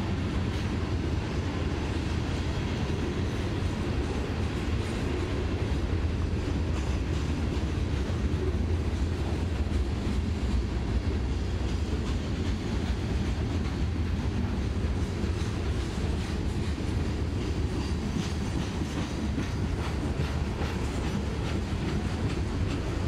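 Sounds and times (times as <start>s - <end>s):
freight cars rumbling on rails: 0.0s - 23.0s.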